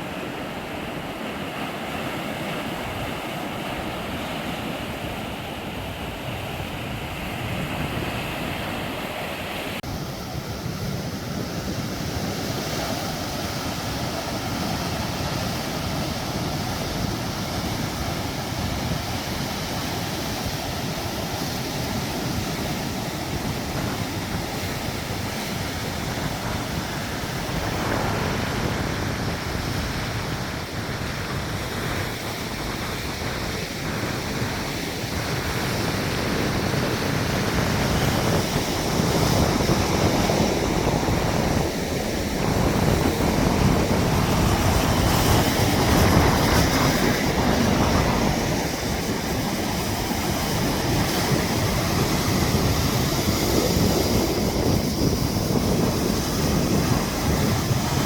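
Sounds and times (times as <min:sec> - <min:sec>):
sea waves washing on shore: 0:00.0 - 0:58.0
wind on microphone: 0:00.0 - 0:58.0.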